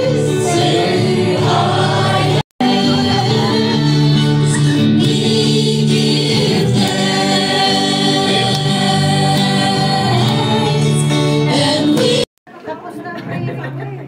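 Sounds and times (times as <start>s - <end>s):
choir singing held notes: 0.0s - 12.3s.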